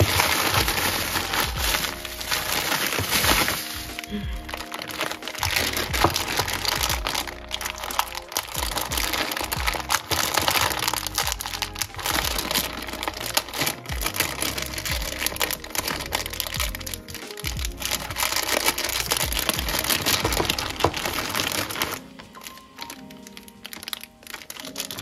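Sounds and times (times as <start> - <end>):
background music: 0.0 - 25.0
plastic bags crinkling: 0.0 - 25.0.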